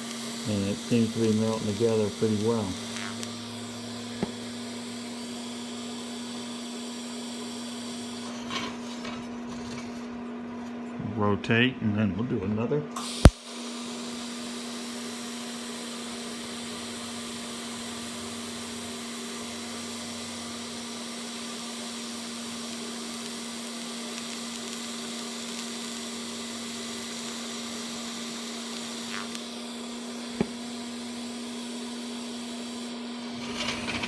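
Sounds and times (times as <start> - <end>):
welding arc hissing: 0.0 - 10.1, 13.0 - 34.0.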